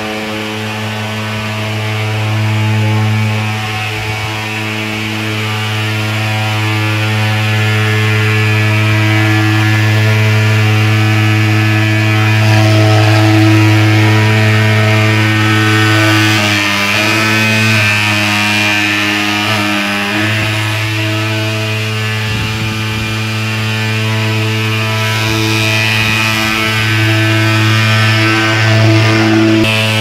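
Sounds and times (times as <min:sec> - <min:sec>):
fogging machine buzzing drone: 0:00.0 - 0:30.0.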